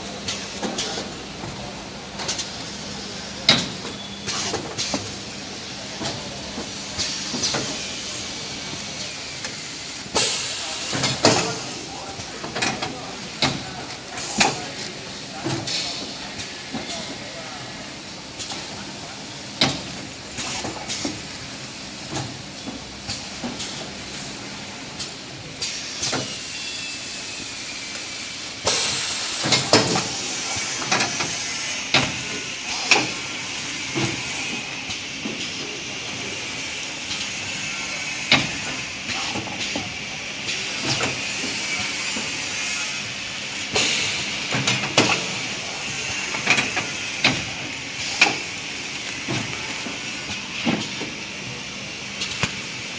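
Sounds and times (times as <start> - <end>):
packing machine hissing: 0.0 - 52.9.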